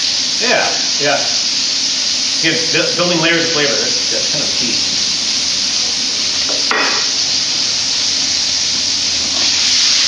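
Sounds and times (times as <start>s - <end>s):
vegetables sizzling in skillet: 0.0s - 10.0s.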